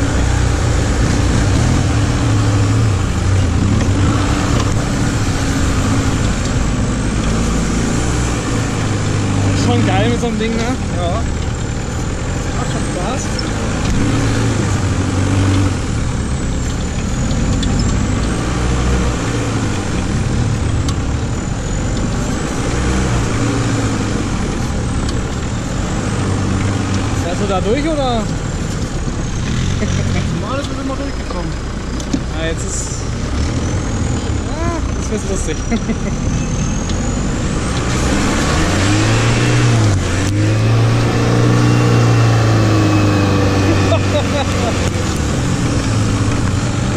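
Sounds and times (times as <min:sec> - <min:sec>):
buggy engine running: 0:00.0 - 0:46.9
tyres rushing through dirt: 0:00.0 - 0:46.9.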